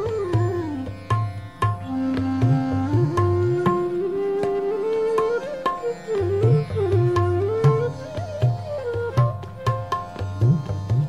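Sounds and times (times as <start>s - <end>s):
sliding instrumental melody: 0.0s - 11.0s.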